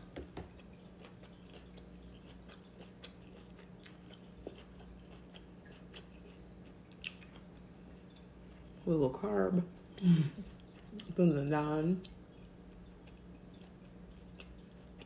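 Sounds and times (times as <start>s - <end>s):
faint chewing: 0.0s - 8.9s, 9.7s - 11.3s, 12.0s - 15.0s
steady low hum: 0.0s - 15.0s.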